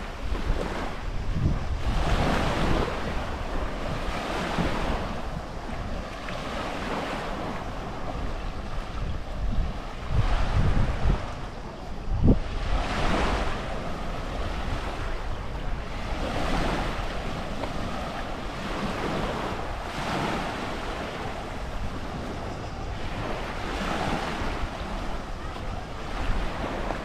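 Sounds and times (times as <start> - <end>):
sea waves washing ashore: 0.0 - 27.0
wind rumbling on microphone: 0.0 - 27.0.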